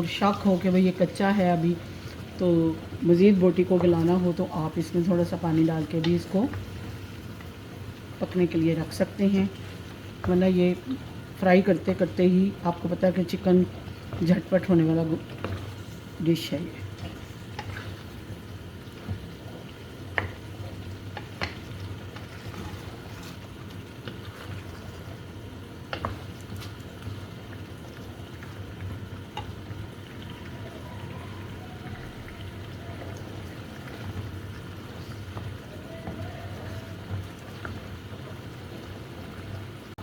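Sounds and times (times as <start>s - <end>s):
chicken frying in oil: 0.0s - 40.0s.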